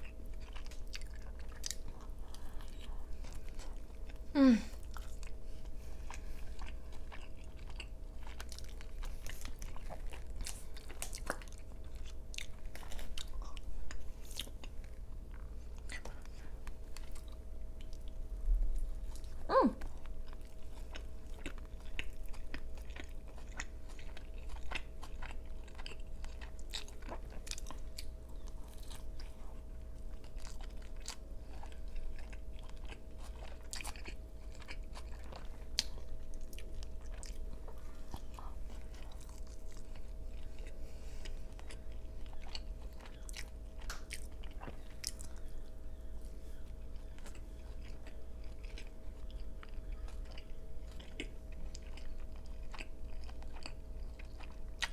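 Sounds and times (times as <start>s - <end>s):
close chewing with wet mouth clicks: 0.0s - 18.2s, 19.0s - 54.9s.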